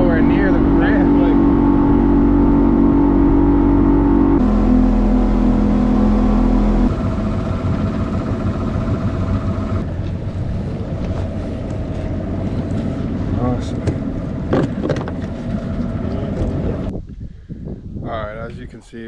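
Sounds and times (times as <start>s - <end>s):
boat motor humming: 0.0s - 16.9s.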